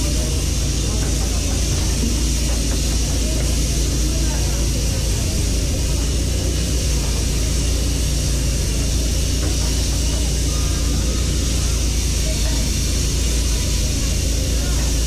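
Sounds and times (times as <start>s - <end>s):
loud rushing roar with deep rumble: 0.0s - 15.0s.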